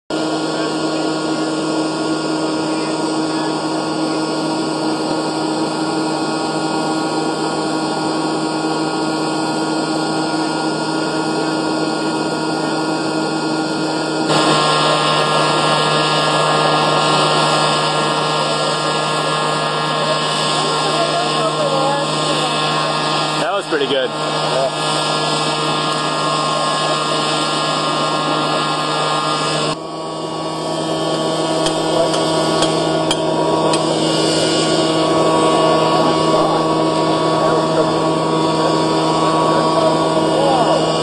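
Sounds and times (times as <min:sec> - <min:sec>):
blower motor whirring: 0:00.1 - 0:41.0
constant hum: 0:00.2 - 0:41.0.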